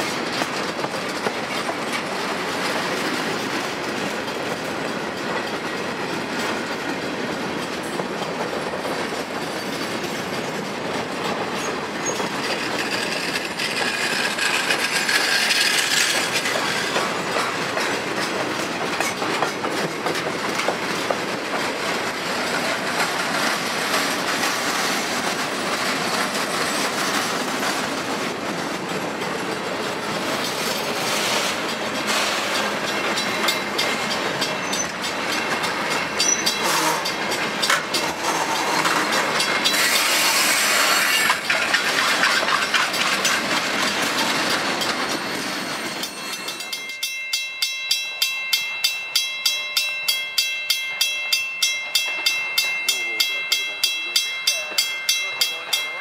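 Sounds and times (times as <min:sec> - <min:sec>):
clickety-clack over rail joints: 0:00.0 - 0:56.0
freight cars rolling on rails: 0:00.0 - 0:56.0.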